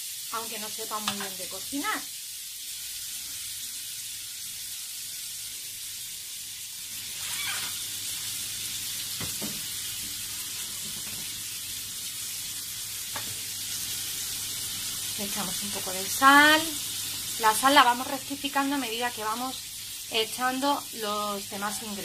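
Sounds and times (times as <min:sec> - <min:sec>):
bacon sizzling in a frying pan: 0:00.0 - 0:22.0.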